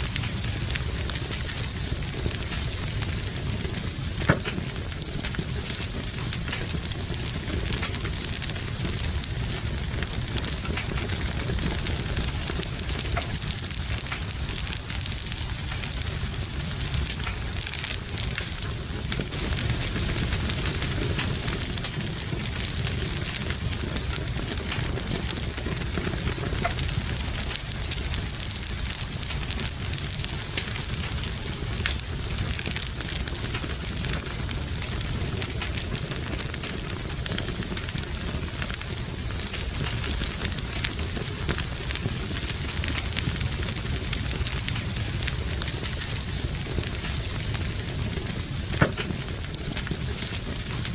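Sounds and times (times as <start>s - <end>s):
steady rain: 0.0s - 50.9s
wood fire crackling: 0.0s - 50.9s.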